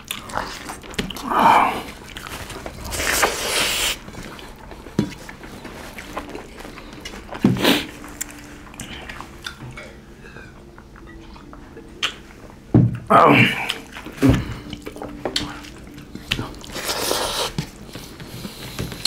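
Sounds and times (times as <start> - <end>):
people chewing and smacking: 0.0 - 19.0.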